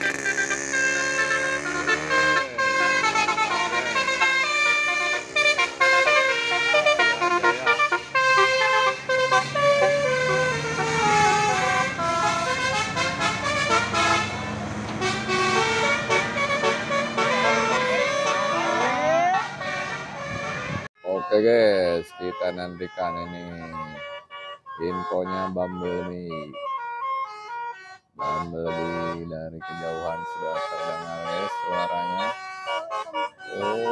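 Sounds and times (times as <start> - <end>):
bus musical horn: 0.0 - 33.9.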